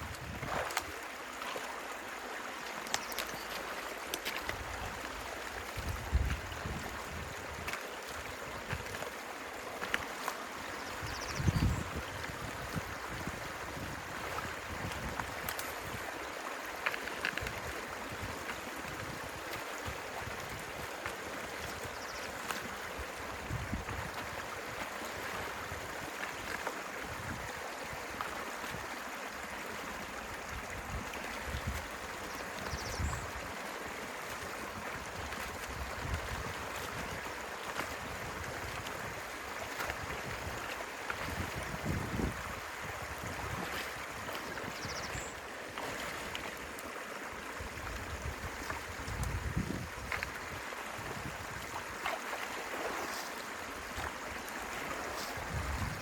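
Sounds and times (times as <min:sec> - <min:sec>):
stream water running: 0:00.0 - 0:56.0.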